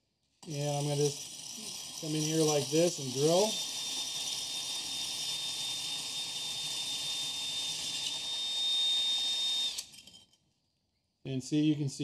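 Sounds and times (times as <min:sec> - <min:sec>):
drill boring into rock: 0:00.4 - 0:10.4.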